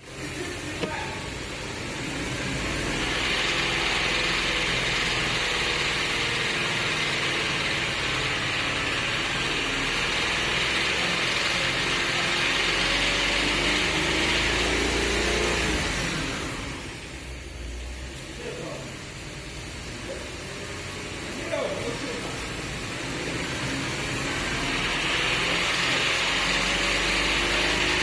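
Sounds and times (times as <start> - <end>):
engine hiss: 0.1 - 28.0.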